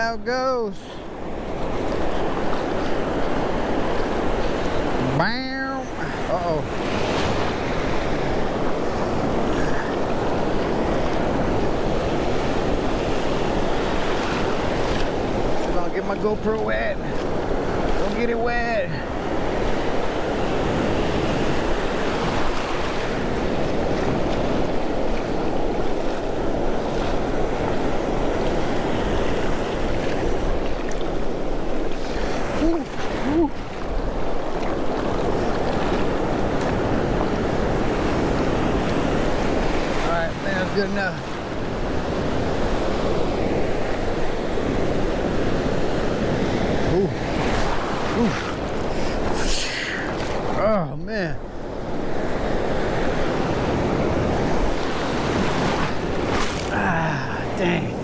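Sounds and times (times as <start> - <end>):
ocean surf breaking: 0.0 - 58.0
foamy water washing: 1.9 - 50.5
wind rumbling on microphone: 5.8 - 50.6, 51.4 - 58.0.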